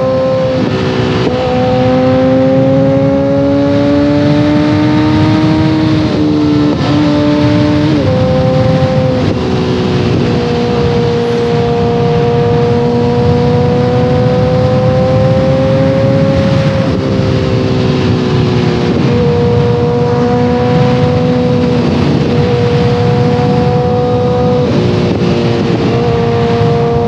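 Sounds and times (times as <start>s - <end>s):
motorcycle exhaust note: 0.0s - 27.0s.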